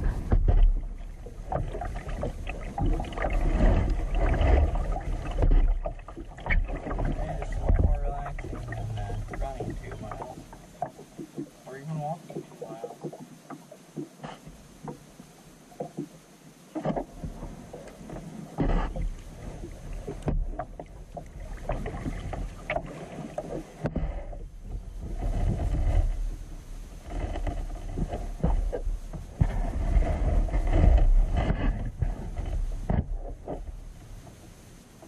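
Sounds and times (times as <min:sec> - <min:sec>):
wind rumble on microphone: 0:00.0 - 0:11.5, 0:16.8 - 0:35.0
paddle splashing in water: 0:00.0 - 0:35.0.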